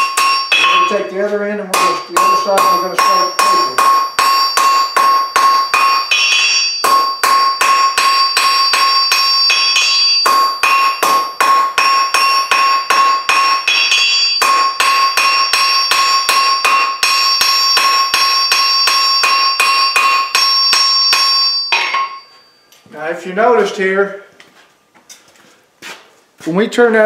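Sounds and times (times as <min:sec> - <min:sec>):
hammer striking steel on anvil: 0:00.0 - 0:22.5.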